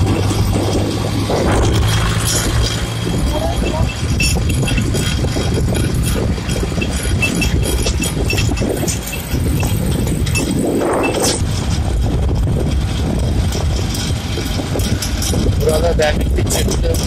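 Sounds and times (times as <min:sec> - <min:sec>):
short rattles and clicks: 0:00.0 - 0:17.0
tractor diesel engine running: 0:00.0 - 0:17.0.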